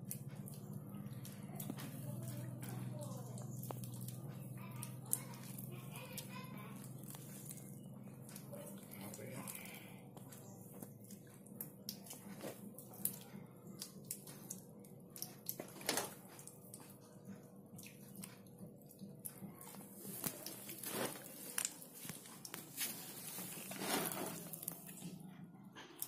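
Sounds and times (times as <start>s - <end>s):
dough squishing: 0.0s - 26.0s.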